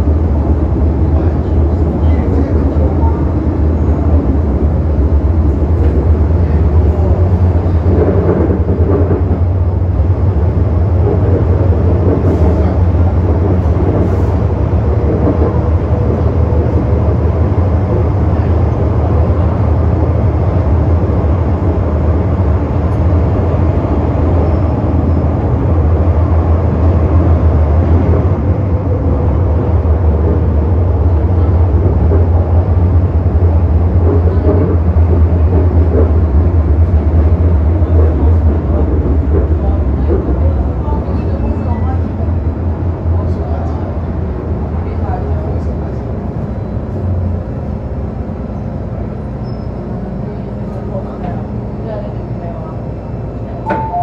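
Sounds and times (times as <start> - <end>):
train interior rumble and hum: 0.0 - 54.0.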